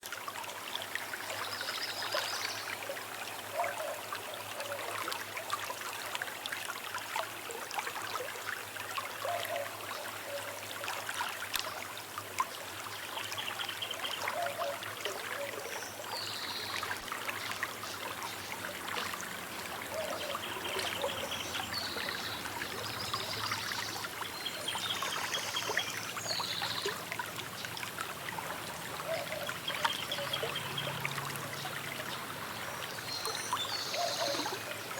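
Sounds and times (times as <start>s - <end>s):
small river flowing: 0.0s - 34.9s.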